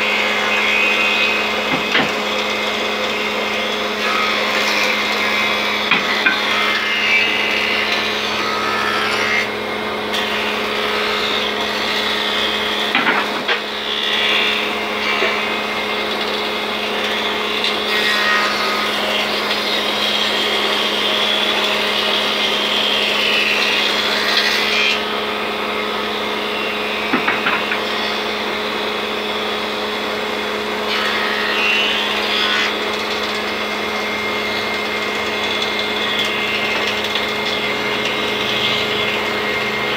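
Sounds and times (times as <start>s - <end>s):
planer cutting wooden boards: 0.0s - 39.9s
thickness planer motor humming: 0.0s - 39.9s.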